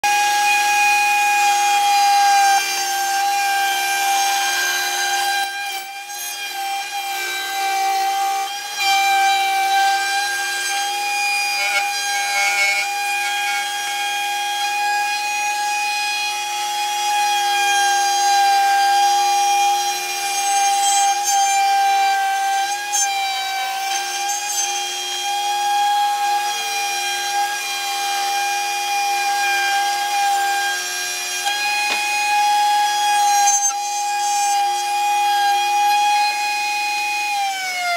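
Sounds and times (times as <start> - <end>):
router high whine: 0.0 - 37.8
router bit cutting wood: 0.0 - 37.9.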